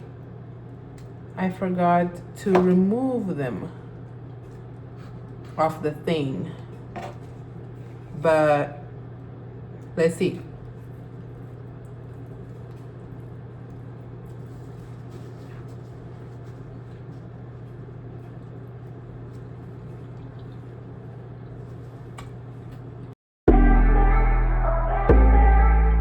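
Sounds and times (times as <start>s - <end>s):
low electrical hum: 0.0s - 23.2s.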